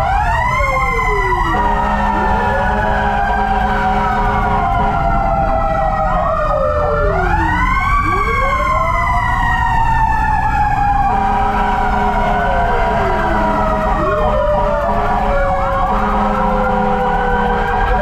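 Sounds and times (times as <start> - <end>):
fire truck sirens wailing: 0.0 - 18.0
low engine drone: 0.0 - 18.0.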